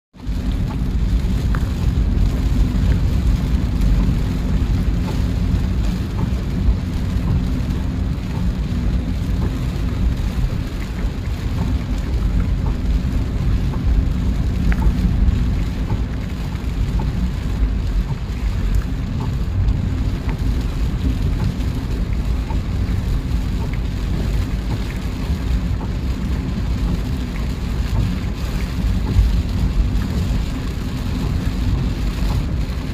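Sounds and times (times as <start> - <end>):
road and engine rumble: 0.1 - 32.9
rain hissing: 0.2 - 32.9
raindrop ticks: 0.2 - 32.9.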